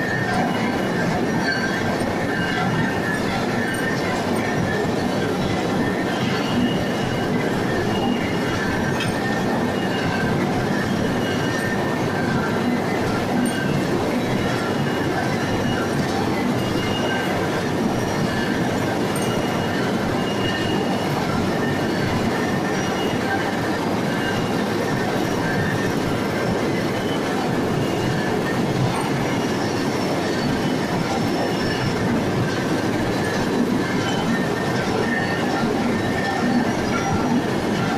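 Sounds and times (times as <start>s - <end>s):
stranding machine clatter and rumble: 0.0s - 37.9s.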